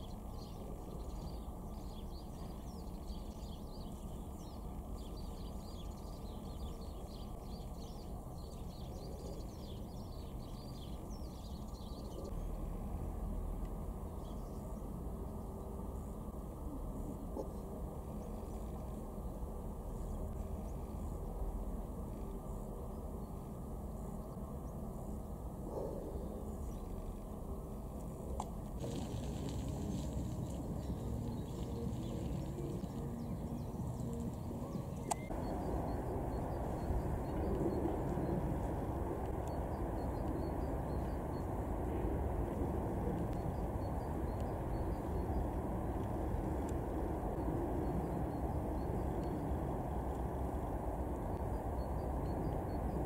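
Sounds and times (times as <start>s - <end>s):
low rumbling background noise: 0.0s - 53.0s.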